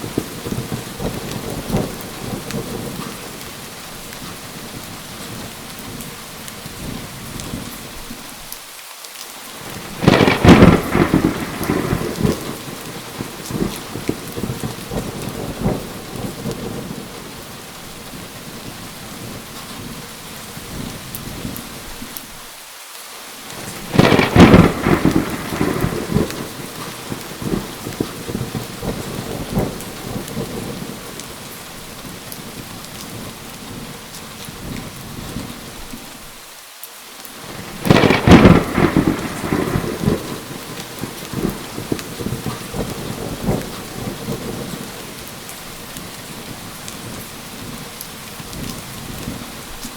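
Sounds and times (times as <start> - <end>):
thunderclaps rumbling: 0.0 - 7.9, 9.6 - 22.0, 23.5 - 35.9, 37.4 - 49.8
steady rain falling: 0.0 - 49.9.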